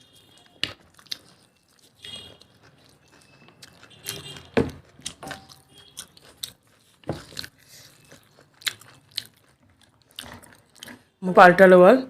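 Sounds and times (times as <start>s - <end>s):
person chewing with mouth clicks: 0.0s - 11.0s.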